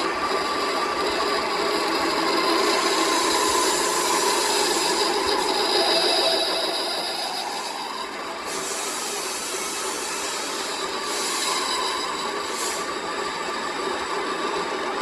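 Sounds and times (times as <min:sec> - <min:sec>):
power tool working metal: 0:00.0 - 0:14.7.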